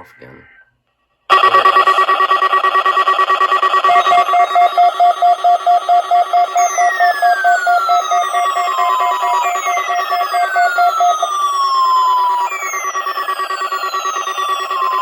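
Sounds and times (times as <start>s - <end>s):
beeping tone: 1.3s - 15.0s
falling siren-like tone: 1.3s - 15.0s
fast pulsing electronic alarm: 1.3s - 15.0s.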